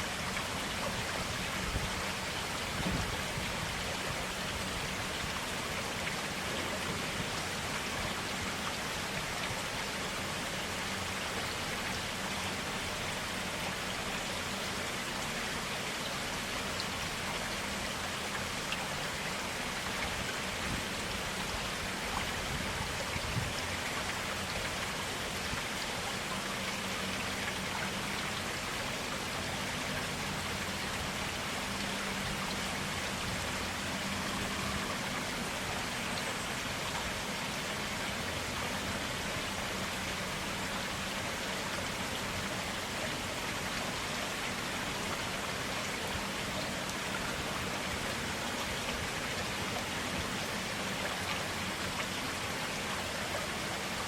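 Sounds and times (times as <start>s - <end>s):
stream flowing water: 0.0s - 54.0s.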